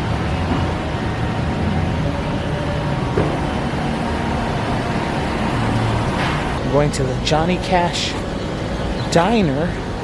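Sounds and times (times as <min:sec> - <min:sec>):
road traffic rumble and hiss: 0:00.0 - 0:10.0.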